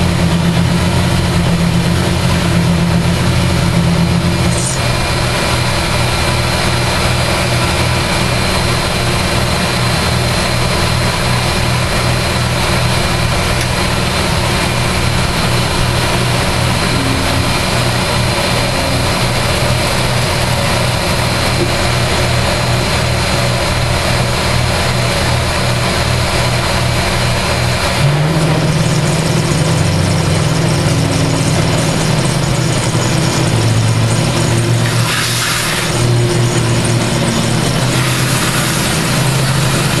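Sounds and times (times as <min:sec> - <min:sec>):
deep hum: 0:00.0 - 0:40.0
milling machine whir: 0:00.0 - 0:40.0.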